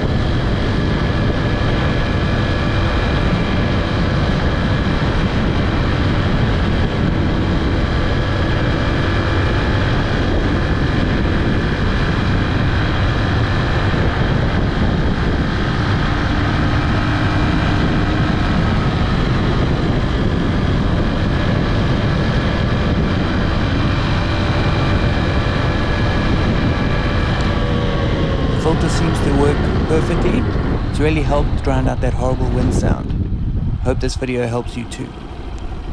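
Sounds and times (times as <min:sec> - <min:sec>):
motorcycle engine running: 0:00.0 - 0:34.0
wind and road noise: 0:00.0 - 0:35.9.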